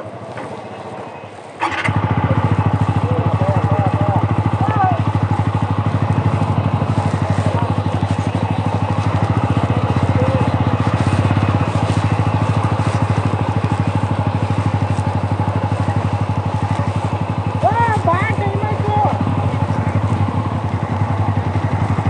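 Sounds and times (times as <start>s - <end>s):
motorcycle engine running steadily: 0.0s - 22.0s.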